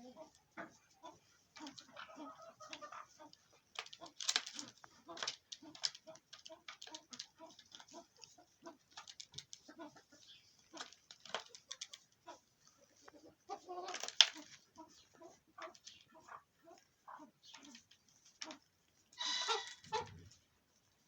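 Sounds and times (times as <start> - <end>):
pheasants clucking: 0.0 - 21.0.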